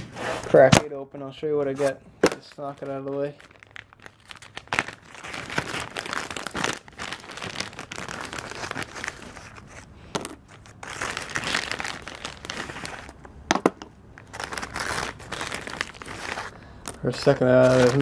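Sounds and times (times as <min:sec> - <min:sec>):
plastic bag crinkling: 0:01.7 - 0:13.4, 0:14.1 - 0:18.0.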